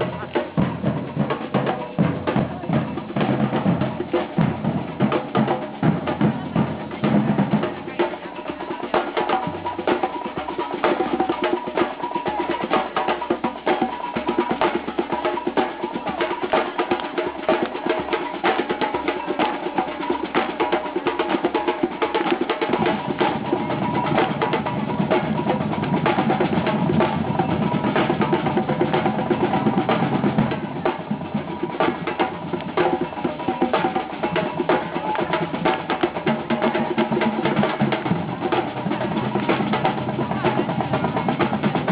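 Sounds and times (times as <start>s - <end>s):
fast drum and wood-block strikes: 0.0s - 41.9s.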